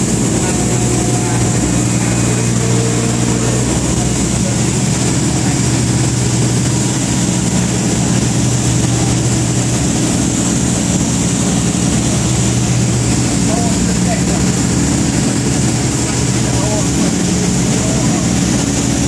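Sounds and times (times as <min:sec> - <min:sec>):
diesel engines droning: 0:00.0 - 0:19.0.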